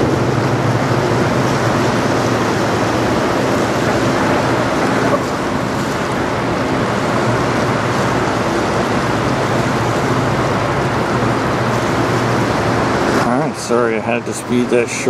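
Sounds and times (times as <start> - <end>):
choppy river water: 0.0 - 15.0
low steady drone: 0.0 - 15.0.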